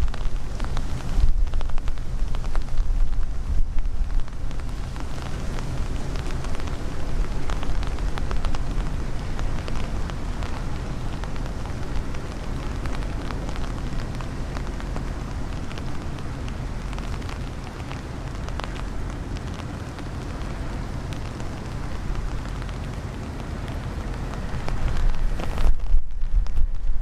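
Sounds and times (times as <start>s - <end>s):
light rain patter: 0.0s - 27.0s
strong wind rumble: 0.0s - 27.0s.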